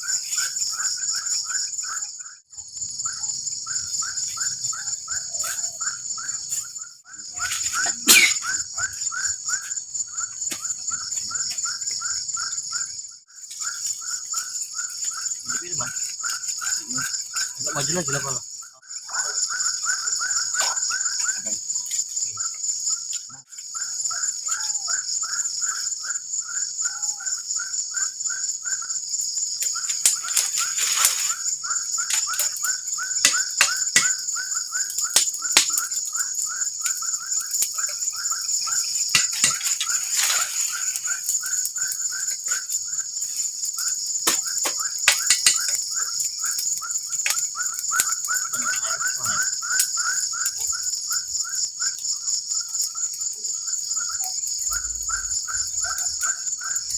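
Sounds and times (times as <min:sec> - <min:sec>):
insects chirping: 0:00.0 - 0:56.9
insects shrill buzz: 0:00.0 - 0:56.9.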